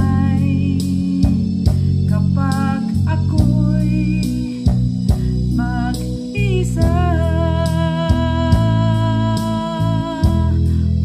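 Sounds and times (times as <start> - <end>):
guitar bass and drums backing: 0.0 - 9.0
woman singing: 0.0 - 11.0.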